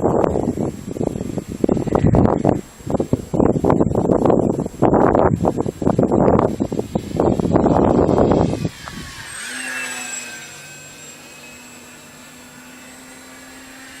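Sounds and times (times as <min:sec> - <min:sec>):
electric model plane motor whine: 0:00.0 - 0:14.0
wind buffeting microphone: 0:00.0 - 0:14.0.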